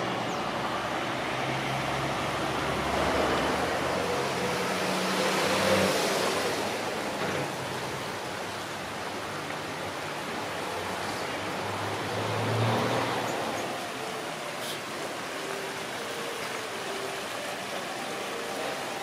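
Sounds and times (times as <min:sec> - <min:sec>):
vehicle engine passing: 0:00.0 - 0:15.9.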